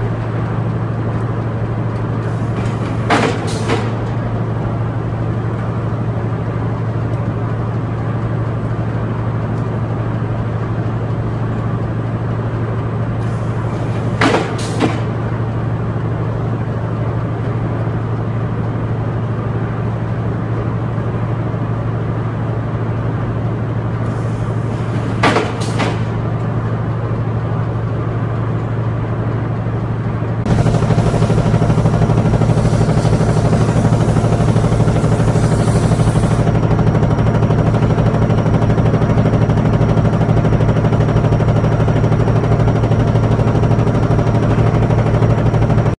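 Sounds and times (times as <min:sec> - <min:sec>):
machinery humming: 0:00.0 - 0:46.0.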